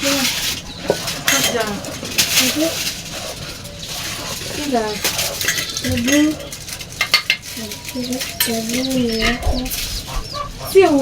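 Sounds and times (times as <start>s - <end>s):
chickens clucking: 0.0s - 11.0s
metal utensils clinking on a bowl: 0.0s - 11.0s.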